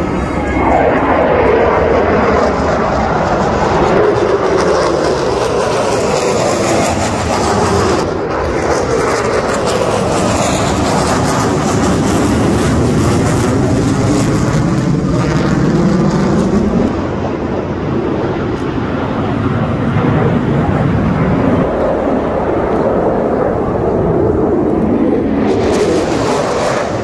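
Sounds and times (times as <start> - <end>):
jet engine roaring overhead: 0.0 - 27.0.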